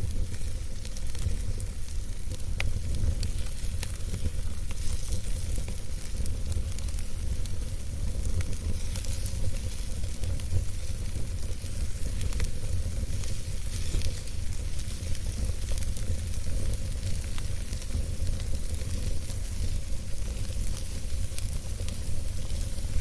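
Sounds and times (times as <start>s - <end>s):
campfire crackling and popping: 0.0s - 23.0s
low rumble of flames: 0.0s - 23.0s.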